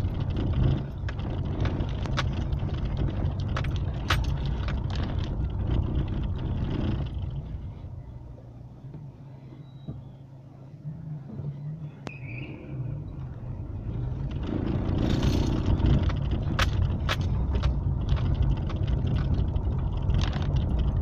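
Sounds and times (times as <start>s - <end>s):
car interior rattles: 0.0s - 10.4s, 13.1s - 21.0s
car hum: 0.0s - 21.0s
tyres rumbling over cobblestones: 0.0s - 21.0s.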